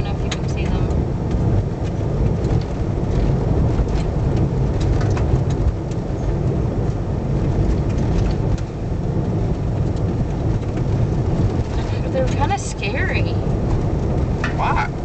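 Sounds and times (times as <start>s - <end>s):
tyres rumbling on gravel: 0.0s - 15.0s.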